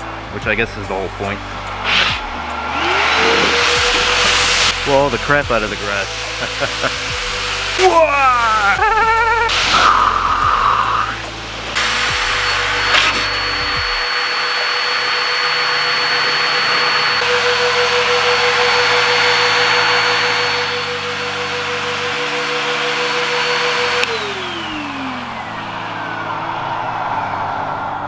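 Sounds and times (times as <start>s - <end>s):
car dryer blowing air with whine: 0.0s - 28.0s.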